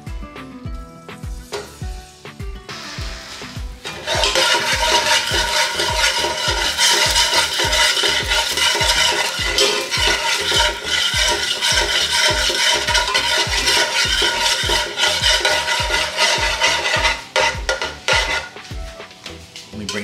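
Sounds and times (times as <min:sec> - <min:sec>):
music with repeating drum beat: 0:00.0 - 0:19.6.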